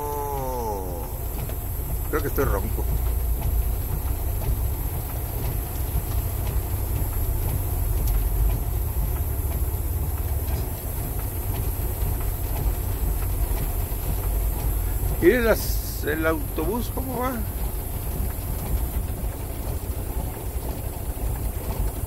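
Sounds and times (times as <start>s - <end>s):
heavy rain: 0.0s - 22.0s
truck engine running low: 0.0s - 22.0s
windshield wipers on glass: 0.0s - 22.0s.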